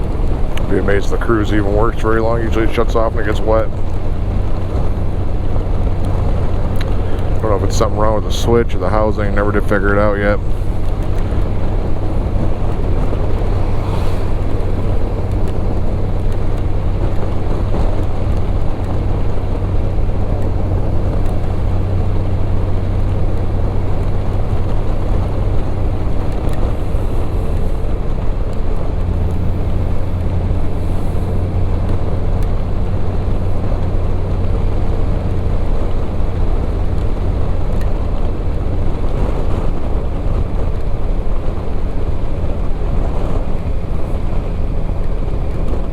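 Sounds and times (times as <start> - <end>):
motorcycle engine running: 0.0 - 45.9
wind and rain rushing: 0.0 - 45.9.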